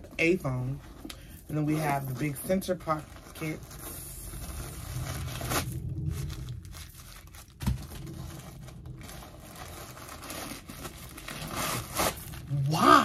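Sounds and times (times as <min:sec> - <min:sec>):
paper crinkling and rustling: 0:01.7 - 0:12.8.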